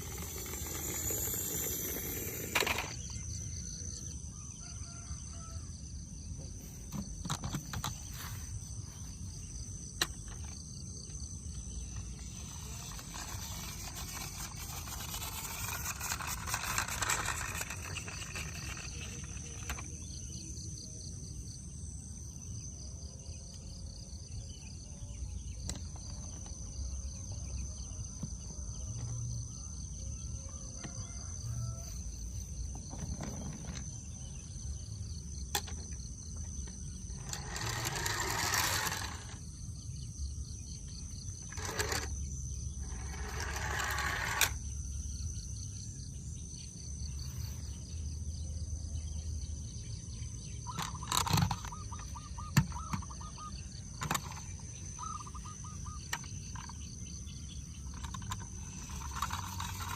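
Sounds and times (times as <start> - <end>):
insect chirring: 0.0 - 5.6, 6.2 - 28.0, 28.7 - 59.9.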